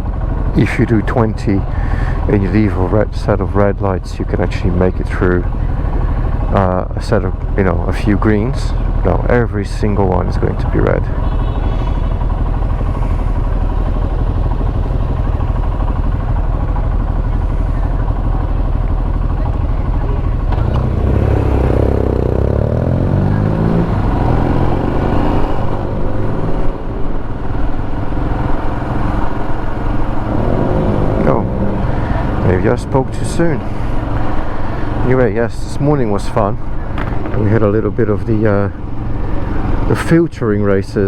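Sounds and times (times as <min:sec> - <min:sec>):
motorcycle engine idling and revving: 0:00.0 - 0:41.0.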